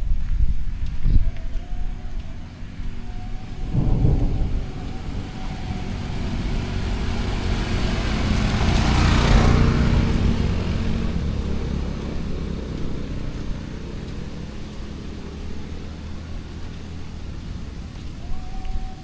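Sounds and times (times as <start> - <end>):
vehicle passing by: 1.5 - 19.0.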